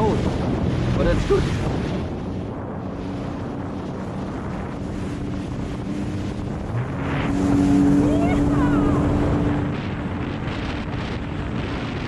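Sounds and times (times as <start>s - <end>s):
jet ski engine running: 0.0s - 12.0s
wind buffeting microphone: 0.0s - 12.0s.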